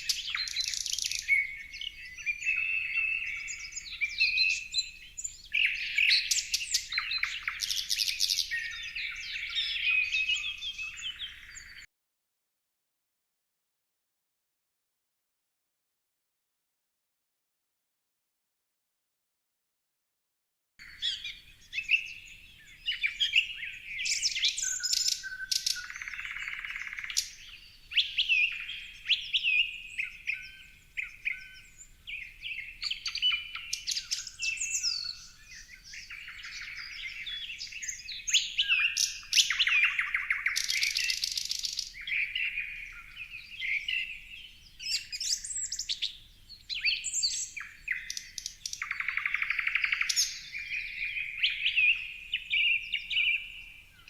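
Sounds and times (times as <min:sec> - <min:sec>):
songbirds chirping and singing: 0:00.0 - 0:11.9, 0:20.8 - 0:54.0.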